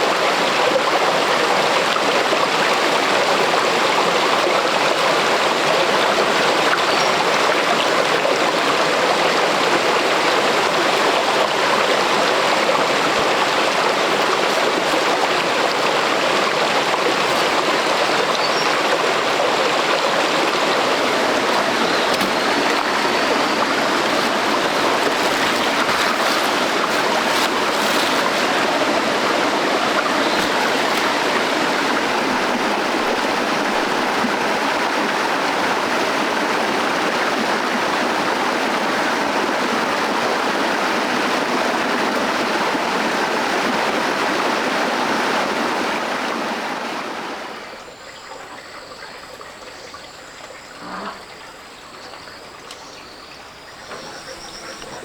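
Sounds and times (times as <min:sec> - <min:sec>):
stream of running water rushing: 0:00.0 - 0:55.0.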